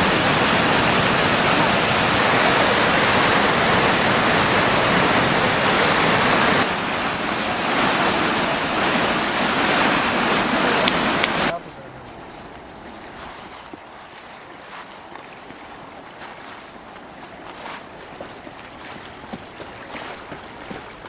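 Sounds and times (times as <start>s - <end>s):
rushing river water: 0.0s - 21.0s.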